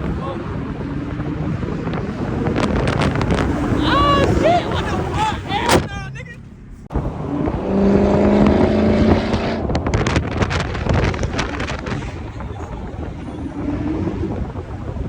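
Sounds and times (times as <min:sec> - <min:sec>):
car engine running: 0:00.0 - 0:15.0
sharp engine crackles: 0:00.0 - 0:15.0
wind buffeting microphone: 0:00.0 - 0:15.0.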